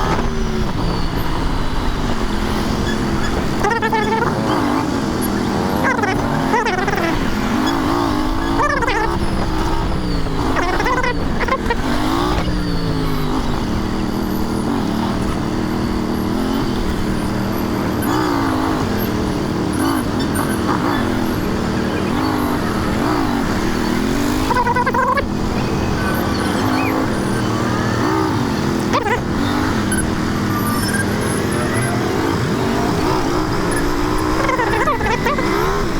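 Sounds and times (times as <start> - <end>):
motorcycle engine running: 0.0 - 35.9
wind and road noise: 0.0 - 35.9.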